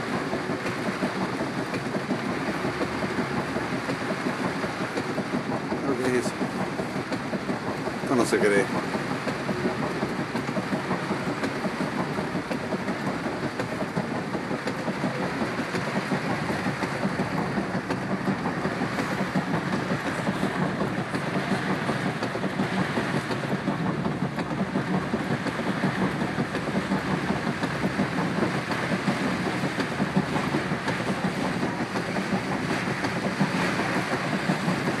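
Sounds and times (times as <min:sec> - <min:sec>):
heavy rain falling: 0:00.0 - 0:35.0
running water: 0:00.0 - 0:35.0.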